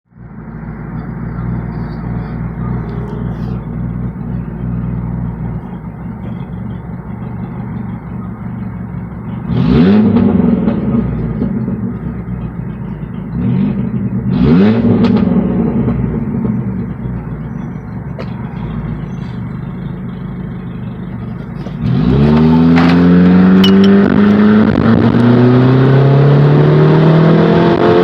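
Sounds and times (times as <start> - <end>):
car engine idling and revving: 0.1 - 28.0.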